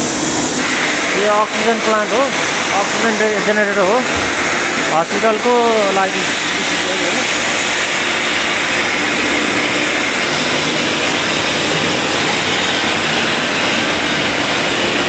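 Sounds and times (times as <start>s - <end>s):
machinery humming with hiss: 0.0s - 15.0s.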